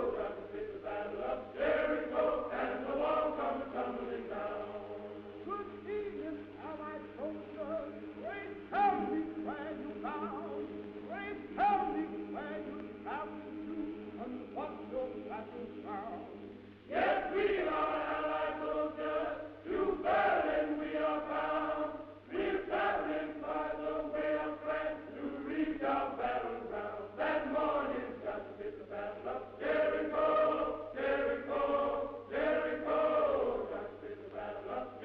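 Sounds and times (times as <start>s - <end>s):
men's choir singing in harmony: 0.0s - 35.0s.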